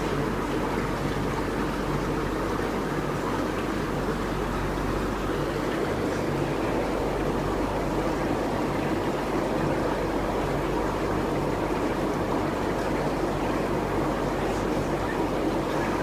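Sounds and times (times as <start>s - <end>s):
aquarium pumps and water moving: 0.0s - 16.0s
low electrical hum: 0.0s - 16.0s.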